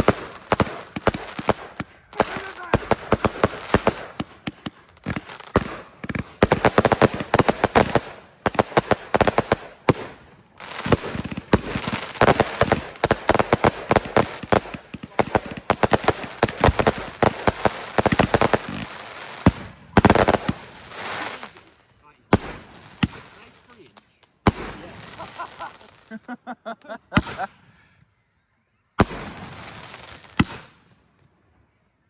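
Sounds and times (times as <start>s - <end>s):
fireworks bangs and crackles: 0.0s - 26.3s, 27.1s - 27.6s, 29.0s - 31.3s.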